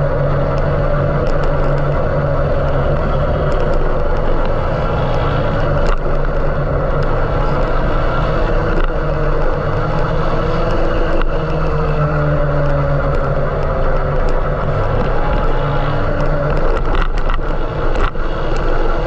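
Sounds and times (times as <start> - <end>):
mechanical drone with low hum: 0.0 - 19.0.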